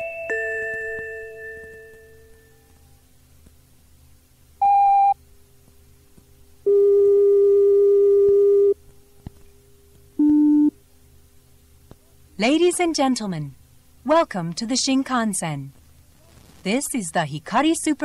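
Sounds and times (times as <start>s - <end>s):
faint tape hum: 0.0s - 18.0s.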